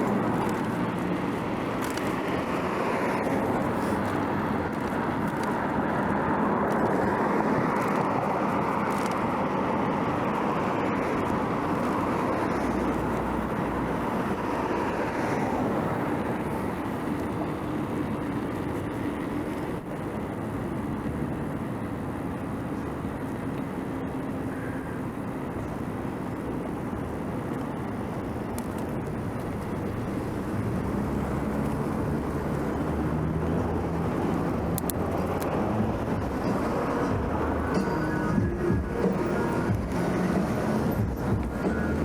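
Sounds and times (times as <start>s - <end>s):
street traffic noise: 0.0s - 42.0s
vehicle engine hum: 0.0s - 42.0s.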